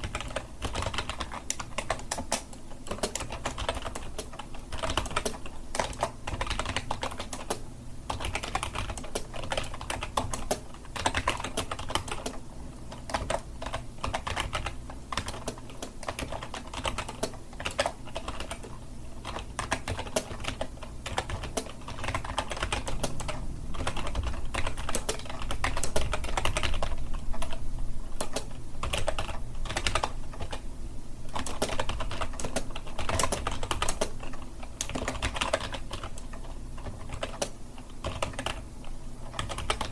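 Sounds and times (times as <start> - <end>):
keyboard typing: 0.0 - 30.6, 31.3 - 39.9.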